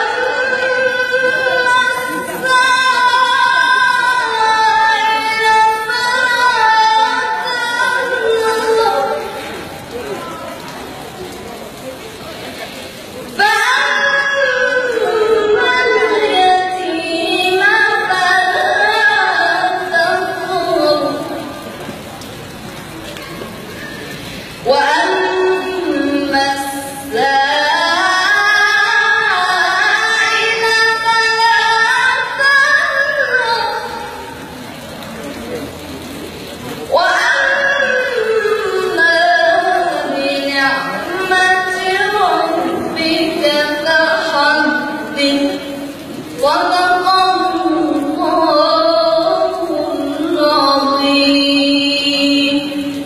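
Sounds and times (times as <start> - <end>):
woman reciting in melodic style: 0.0 - 10.6, 13.3 - 21.8, 24.5 - 34.5, 36.8 - 53.0.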